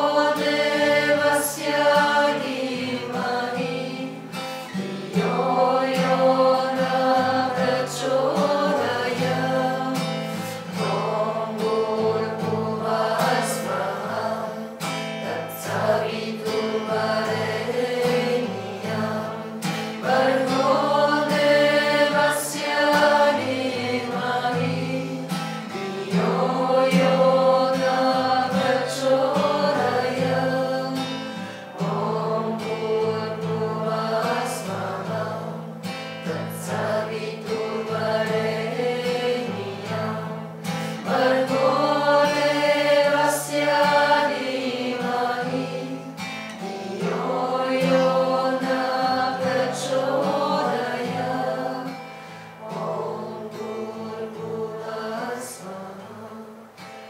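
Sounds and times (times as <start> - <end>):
woman and group singing mantra: 0.0 - 56.8
strummed acoustic guitar: 0.0 - 57.0.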